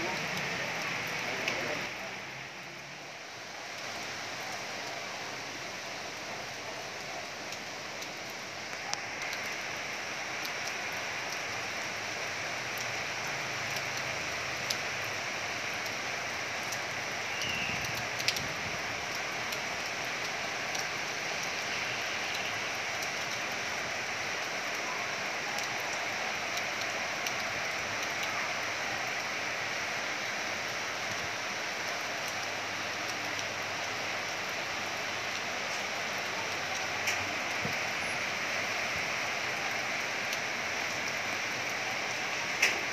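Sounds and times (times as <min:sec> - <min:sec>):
raindrop ticks: 0:00.0 - 0:02.9, 0:07.0 - 0:29.2, 0:30.4 - 0:42.9
heavy rain falling: 0:00.0 - 0:42.9.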